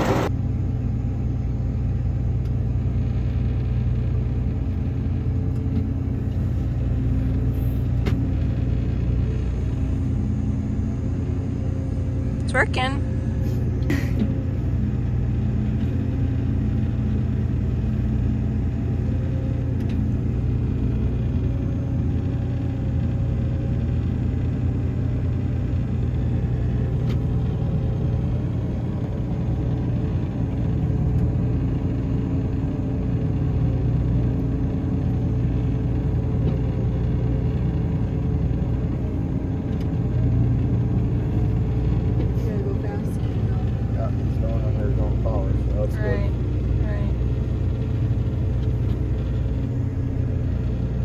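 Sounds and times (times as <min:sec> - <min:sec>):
heavy farm vehicle engine rumble: 0:00.0 - 0:51.0.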